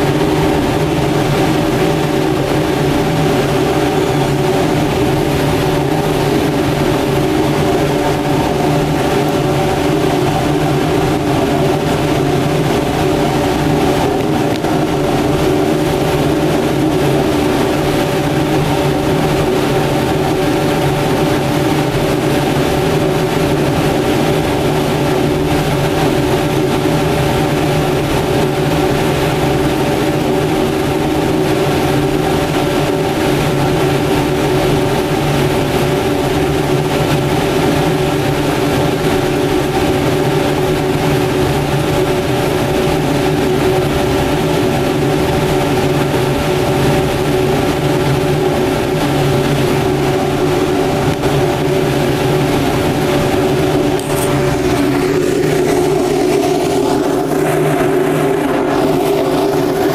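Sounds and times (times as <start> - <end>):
constant low hum: 0.0 - 59.9
furnace burner and blower roaring: 0.0 - 59.9.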